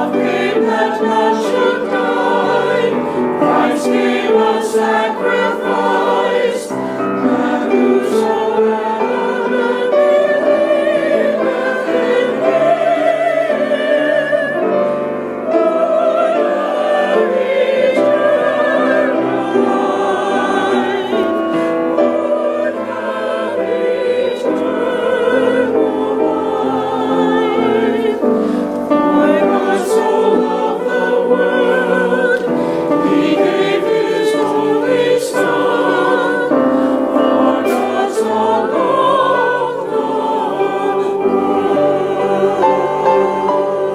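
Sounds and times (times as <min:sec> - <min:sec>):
church choir singing: 0:00.0 - 0:43.9.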